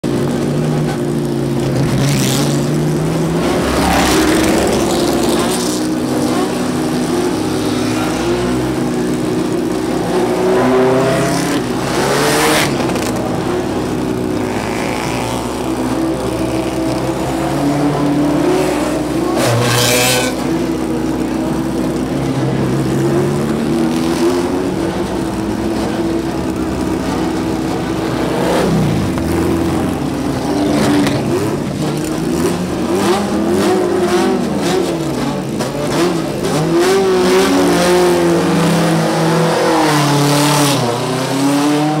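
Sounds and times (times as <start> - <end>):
racing car engines revving: 0.0 - 42.0.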